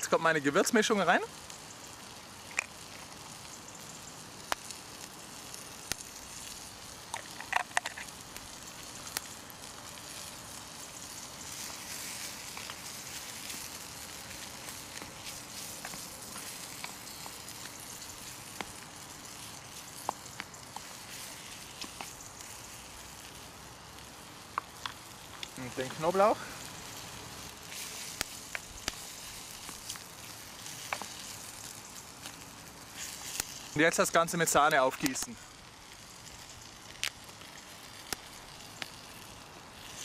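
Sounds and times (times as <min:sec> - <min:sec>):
food sizzling in a frying pan: 0:00.0 - 0:40.0.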